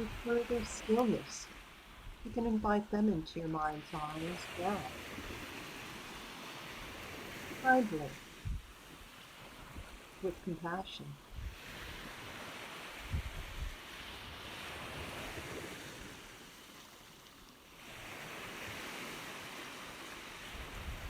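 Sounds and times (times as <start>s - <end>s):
ocean surf washing in: 0.0s - 21.0s.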